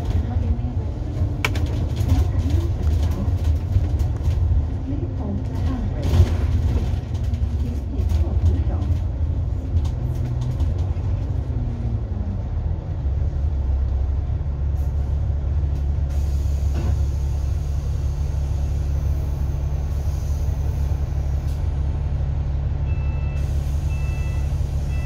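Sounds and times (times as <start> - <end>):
diesel bus engine: 0.0 - 25.0.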